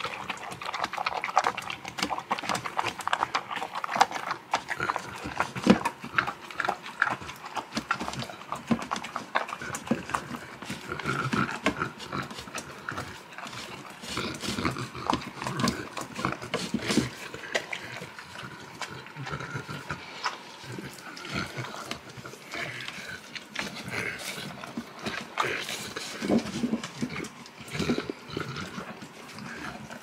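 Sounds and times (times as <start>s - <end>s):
dog chewing and slurping: 0.0s - 30.0s.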